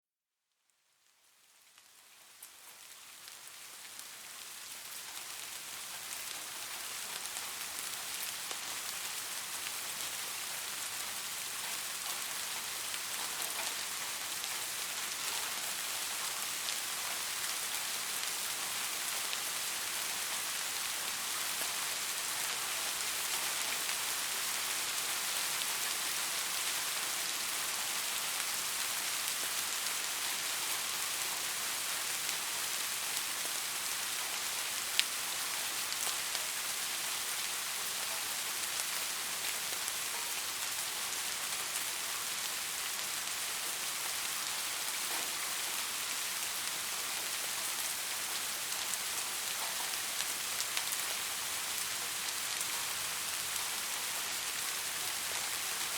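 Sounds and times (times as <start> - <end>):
steady rain falling: 0.5 - 55.9.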